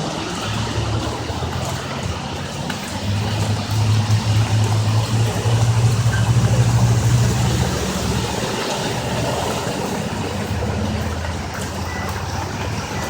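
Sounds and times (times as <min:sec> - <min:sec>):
rushing water wash: 0:00.0 - 0:13.0.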